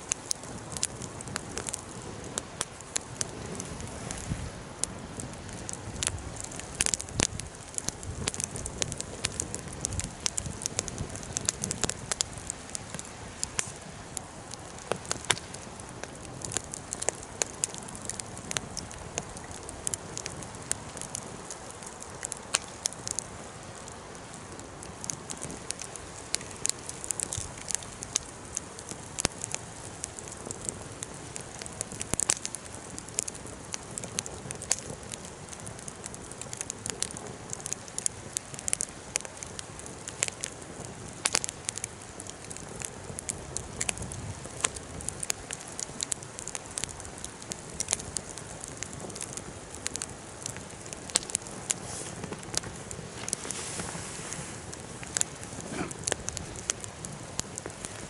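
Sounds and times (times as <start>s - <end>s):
bonfire crackling and popping: 0.0s - 58.0s
low hiss of burning: 0.0s - 58.0s.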